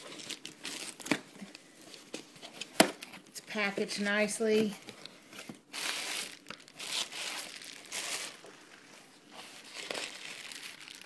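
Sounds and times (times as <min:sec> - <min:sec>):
paper and plastic wrapping crinkling: 0:00.0 - 0:11.0.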